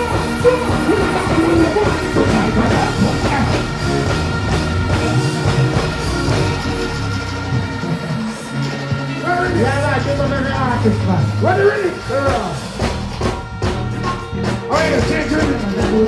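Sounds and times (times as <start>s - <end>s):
live band music: 0.0s - 16.0s.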